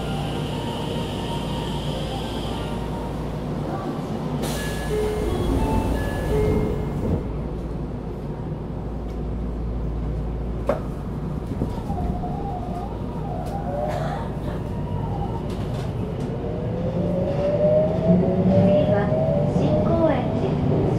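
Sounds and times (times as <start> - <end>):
subway wheels rumbling on rail: 0.0 - 20.9.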